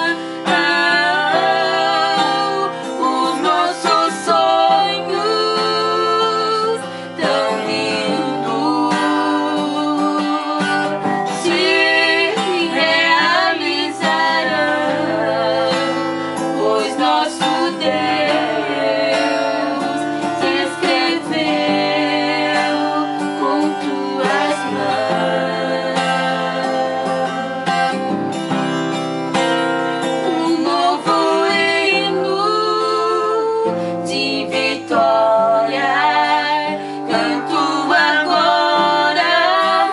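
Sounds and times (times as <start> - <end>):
person singing gospel song: 0.0 - 28.1, 30.0 - 39.9
acoustic guitar: 0.0 - 39.9.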